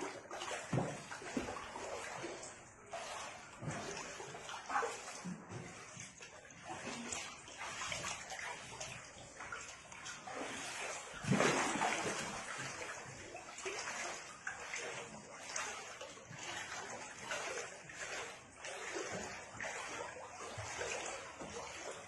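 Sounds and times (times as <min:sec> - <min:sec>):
floodwater splashing and sloshing: 0:00.0 - 0:22.0.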